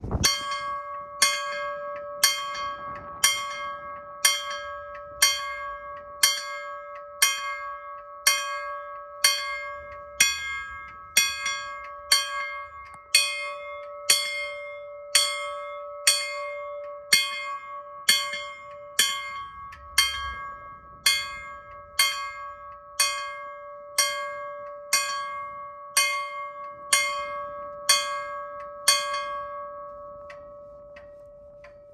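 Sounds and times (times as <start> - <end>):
level-crossing bell striking: 0.2 - 31.9.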